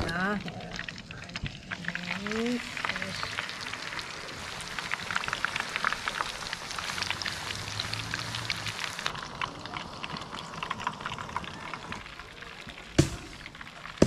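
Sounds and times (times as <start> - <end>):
fish deep-frying in oil: 0.0 - 14.0.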